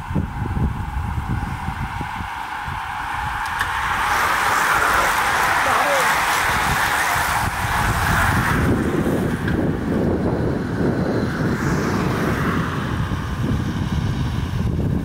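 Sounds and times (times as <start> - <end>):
bicycles riding past: 0.0 - 15.0
low rumble: 0.0 - 15.0
wind buffeting microphone: 0.0 - 15.0.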